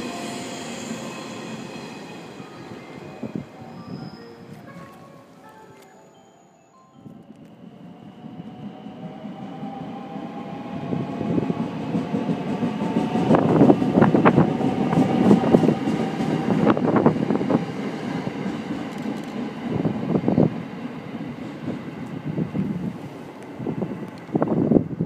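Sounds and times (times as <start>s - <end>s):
electric train running past: 0.0s - 25.0s.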